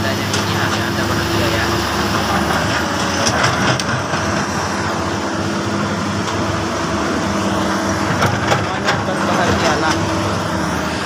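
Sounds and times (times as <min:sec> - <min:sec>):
excavator diesel engine: 0:00.0 - 0:11.0.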